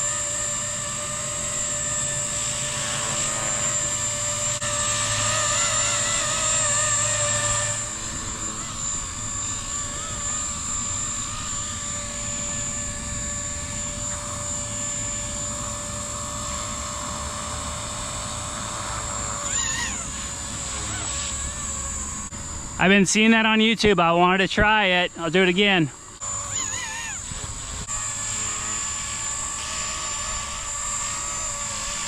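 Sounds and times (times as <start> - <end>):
rc helicopter motor and rotor whine: 0.0 - 32.0.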